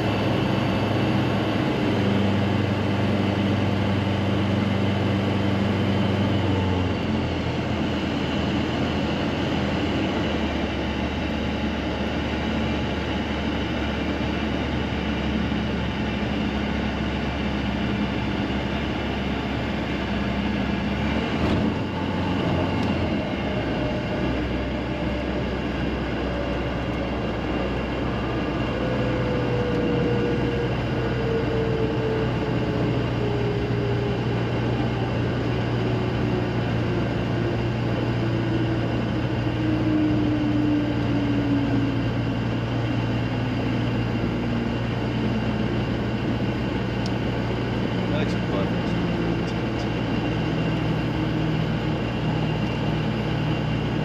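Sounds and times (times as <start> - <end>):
light aircraft engine drone: 0.0 - 54.0.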